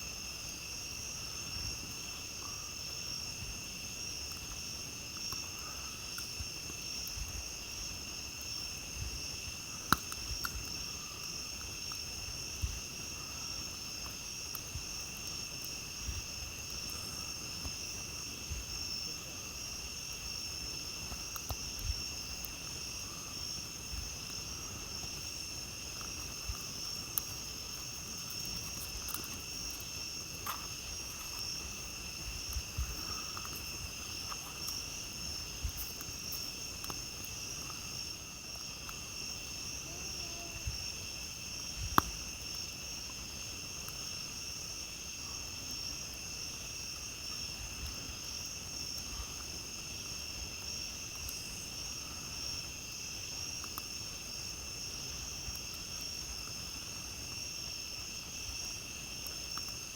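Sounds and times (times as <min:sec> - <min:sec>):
campfire crackling: 0:00.0 - 0:59.9
night insects chirring: 0:00.0 - 0:59.9.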